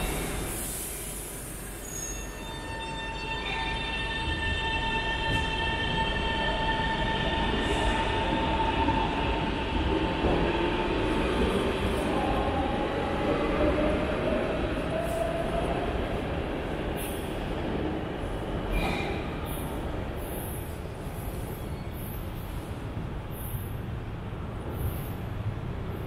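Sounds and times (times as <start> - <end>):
train wheels rumbling on rails: 4.0 - 26.0.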